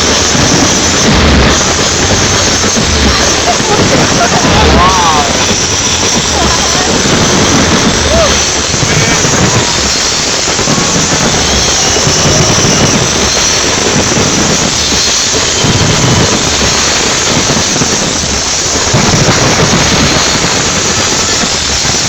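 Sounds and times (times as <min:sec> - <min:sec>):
fireworks crackling and hissing: 0:00.0 - 0:22.0
fireworks deep booms: 0:00.0 - 0:22.0.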